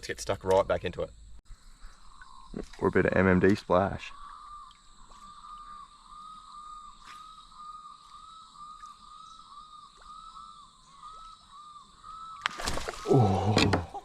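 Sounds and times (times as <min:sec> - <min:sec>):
insects pulsing drone: 0:00.0 - 0:14.0.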